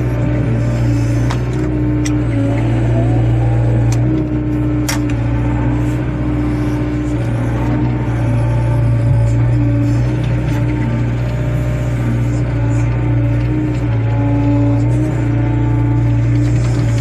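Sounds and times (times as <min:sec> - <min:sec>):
excavator diesel engine: 0:00.0 - 0:17.0
hydraulic whine: 0:00.0 - 0:17.0.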